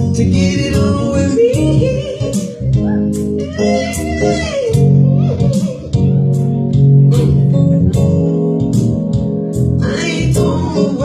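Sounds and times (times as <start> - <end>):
guitar: 0.0 - 11.0
slow soul band instrumental: 0.0 - 11.0.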